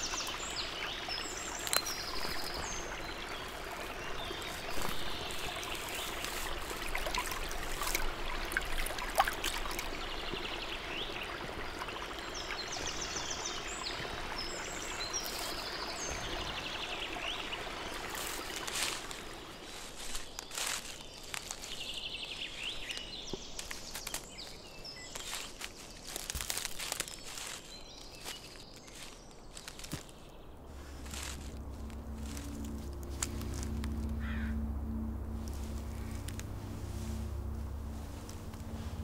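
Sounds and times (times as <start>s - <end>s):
small birds calling: 0.0s - 39.0s
stream trickling and gurgling: 0.0s - 39.0s.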